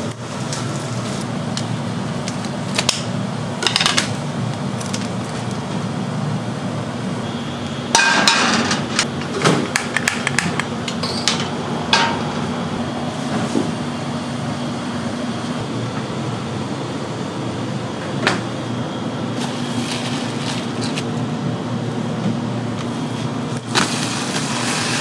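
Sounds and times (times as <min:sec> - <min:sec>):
fan humming: 0:00.0 - 0:25.0.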